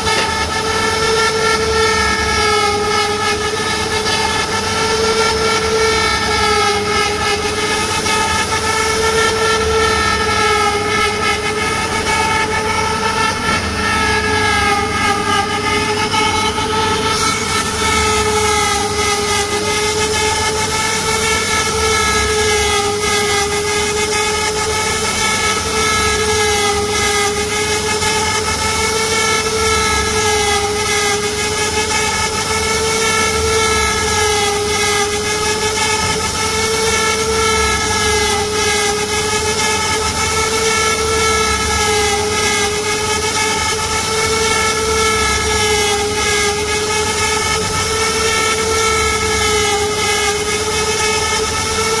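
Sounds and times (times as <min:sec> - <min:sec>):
router spindle motor whining: 0:00.0 - 0:52.0.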